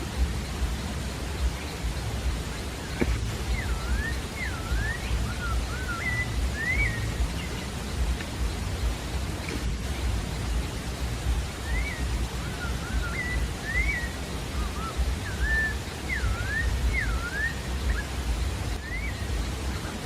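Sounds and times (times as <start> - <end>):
thrush singing whistled phrases: 0.0 - 9.4, 10.0 - 20.0
low rumbling hiss: 0.0 - 20.0.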